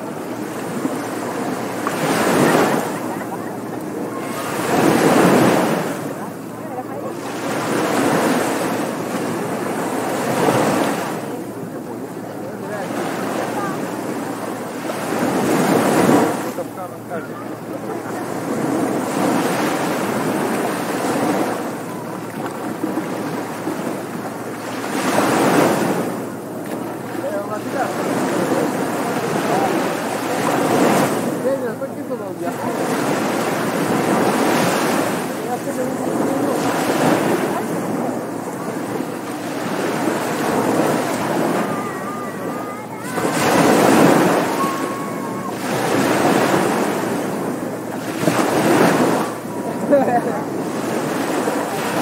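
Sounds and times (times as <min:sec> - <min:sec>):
waves breaking on a beach: 0:00.0 - 0:52.0.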